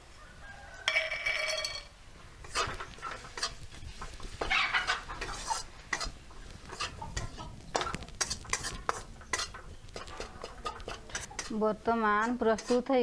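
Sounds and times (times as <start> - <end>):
metal spatula scraping a pan: 2.4 - 13.0.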